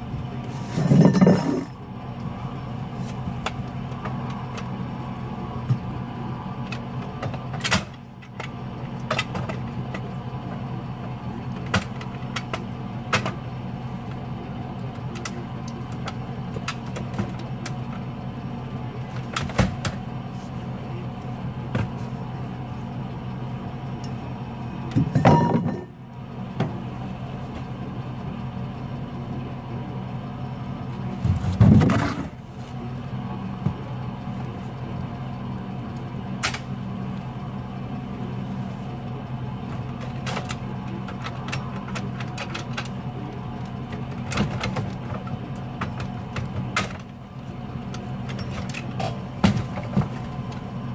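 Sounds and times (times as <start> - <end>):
truck engine idling: 0.0 - 50.9.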